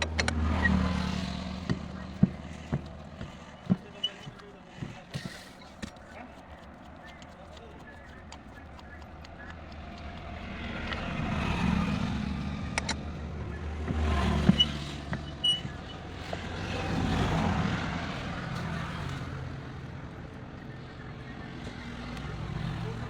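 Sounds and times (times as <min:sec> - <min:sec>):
motor vehicles passing: 0:00.0 - 0:23.0.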